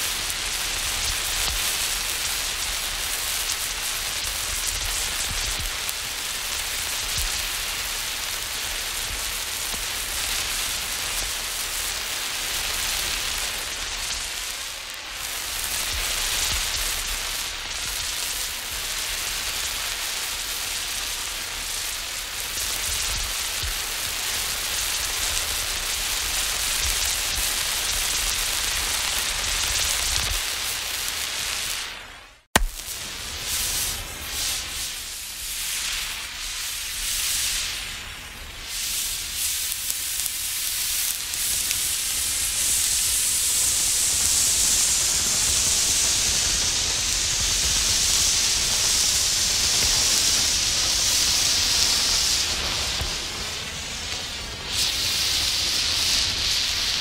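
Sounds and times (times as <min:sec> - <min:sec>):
flare fizzing and crackling: 0:00.0 - 0:57.0.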